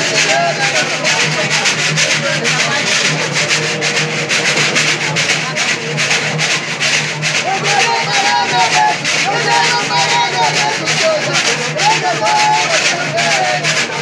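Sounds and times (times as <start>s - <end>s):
bamboo scraper rhythm: 0.0s - 14.0s
lutes strummed: 0.0s - 14.0s.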